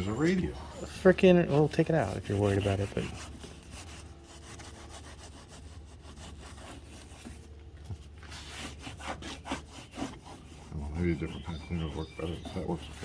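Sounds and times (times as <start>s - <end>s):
hand scrubbing strokes: 0.0s - 13.0s.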